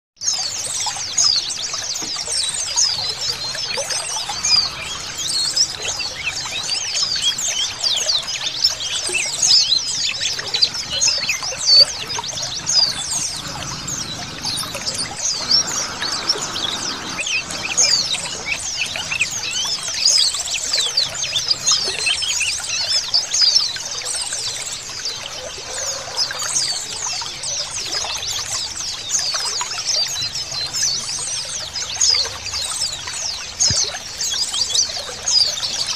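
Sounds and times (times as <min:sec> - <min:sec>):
trickling water: 0:00.2 - 0:35.9
birds chirping in chorus: 0:00.4 - 0:35.9.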